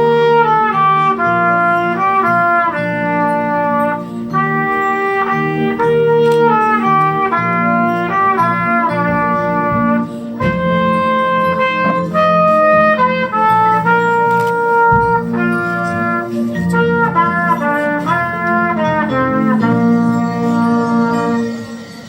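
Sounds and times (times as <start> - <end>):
instrumental music: 0.0 - 22.0.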